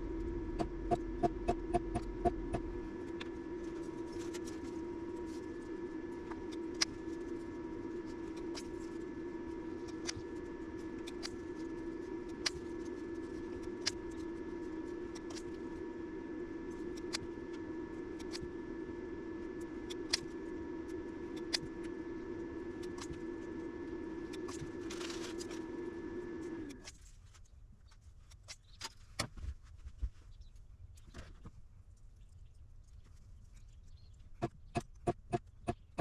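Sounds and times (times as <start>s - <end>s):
machine hum with whine: 0.0s - 36.0s.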